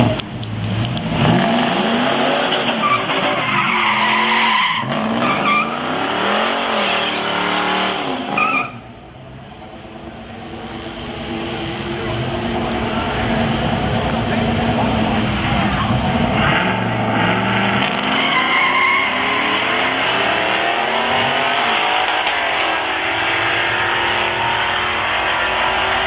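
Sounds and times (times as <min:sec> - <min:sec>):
truck engine revving: 0:00.0 - 0:08.8, 0:10.4 - 0:26.0.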